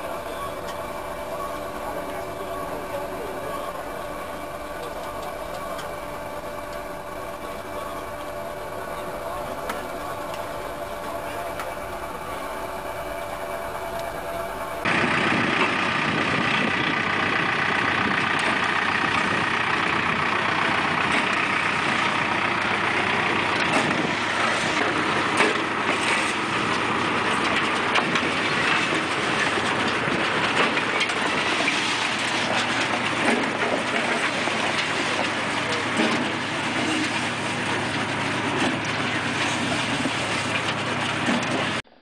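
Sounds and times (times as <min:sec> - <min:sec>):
mechanical clatter of harvester: 0:00.0 - 0:42.0
tractor engine: 0:00.0 - 0:42.0.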